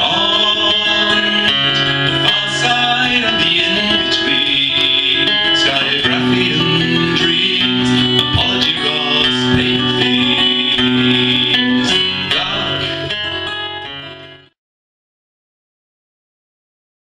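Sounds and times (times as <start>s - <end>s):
acoustic guitar strumming: 0.0s - 14.5s.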